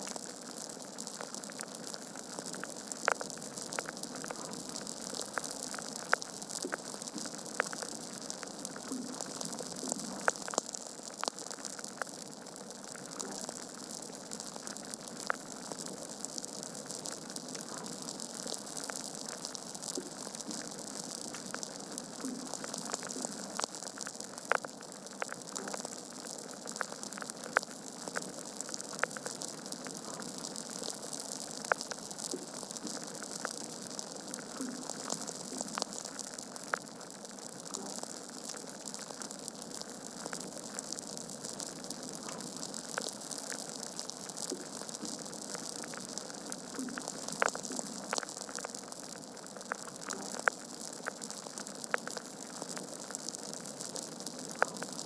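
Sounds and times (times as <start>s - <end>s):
logs crackling and popping: 0.0s - 55.0s.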